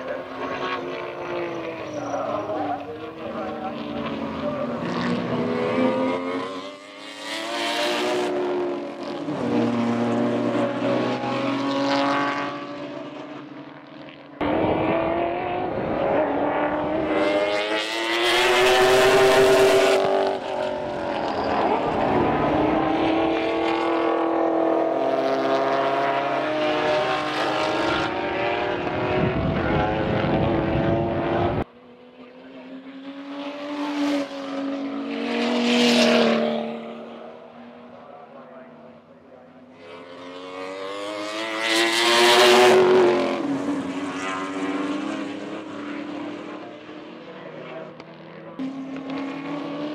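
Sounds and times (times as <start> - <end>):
race car engines at full throttle: 0.0 - 49.9.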